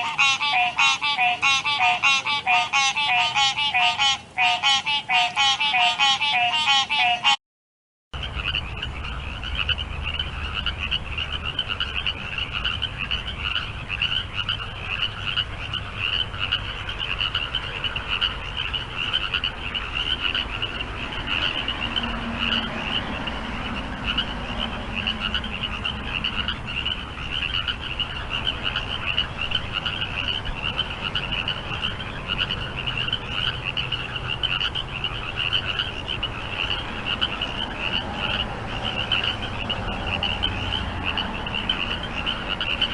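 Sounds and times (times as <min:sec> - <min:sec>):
frogs calling: 0:00.0 - 0:07.4, 0:08.2 - 0:42.9.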